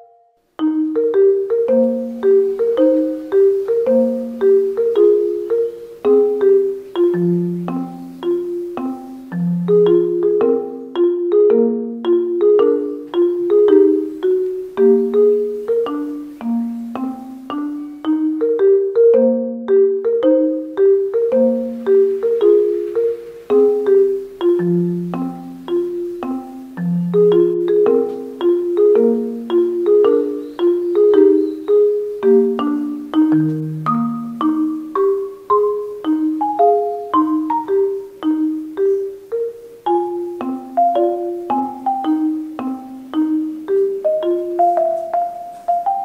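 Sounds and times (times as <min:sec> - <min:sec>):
bouncy instrumental music: 0:00.0 - 0:46.0.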